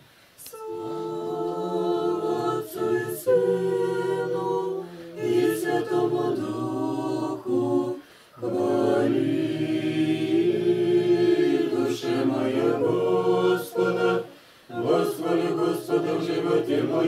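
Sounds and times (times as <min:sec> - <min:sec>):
voices singing liturgical chant: 0:00.4 - 0:17.0.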